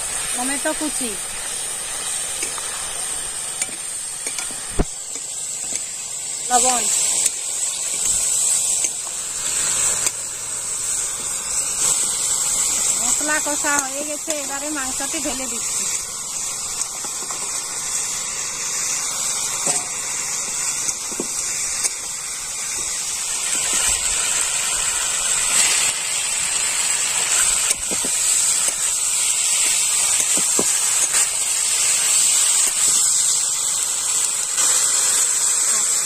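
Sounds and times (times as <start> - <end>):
meat sizzling in a pan: 0.0 - 36.0.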